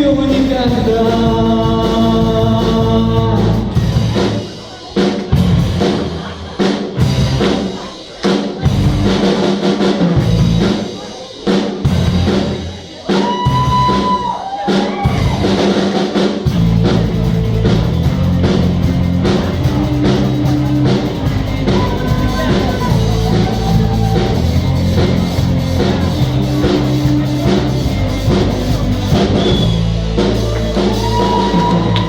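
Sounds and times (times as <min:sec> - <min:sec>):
bass guitar: 0:00.0 - 0:07.8, 0:08.6 - 0:11.0, 0:11.8 - 0:32.0
drum kit: 0:00.0 - 0:32.0.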